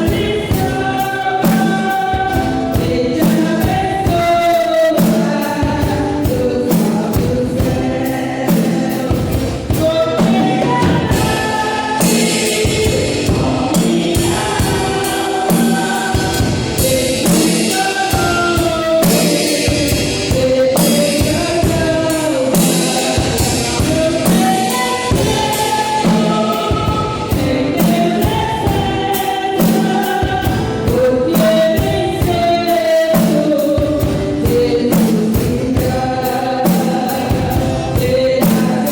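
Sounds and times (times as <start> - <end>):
band with drum kit: 0.0 - 38.9
choir singing gospel song: 0.0 - 38.9.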